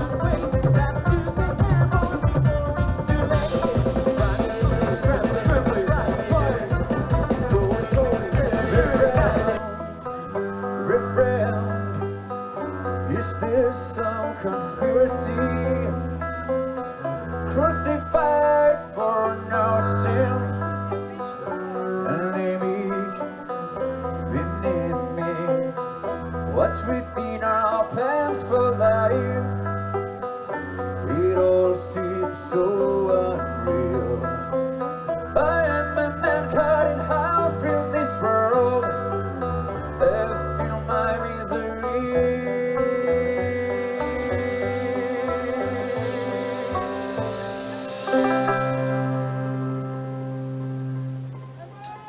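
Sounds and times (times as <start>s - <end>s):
bass line: 0.0s - 51.8s
banjo picking: 0.0s - 52.0s
guitar: 0.0s - 52.0s.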